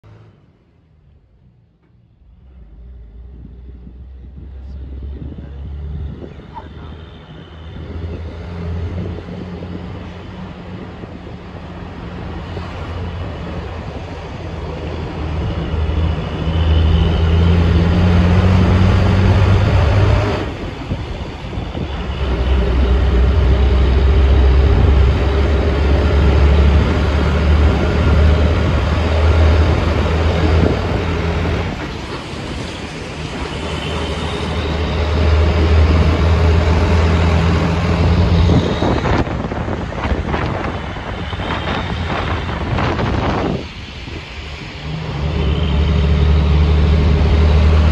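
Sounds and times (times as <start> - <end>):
bus engine drone: 0.0 - 47.9
road and tyre noise: 0.0 - 47.9.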